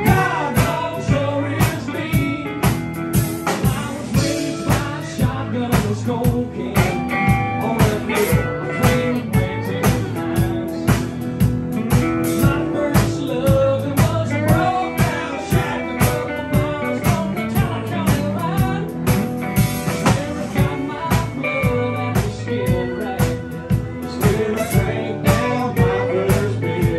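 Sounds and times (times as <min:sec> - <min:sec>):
drum kit beat: 0:00.0 - 0:26.9
live band playing blues rock: 0:00.0 - 0:26.9.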